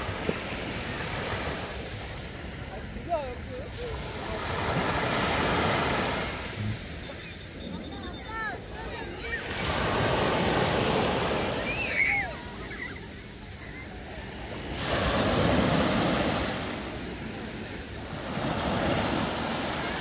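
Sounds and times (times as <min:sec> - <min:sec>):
waves washing up a beach: 0:00.0 - 0:20.0.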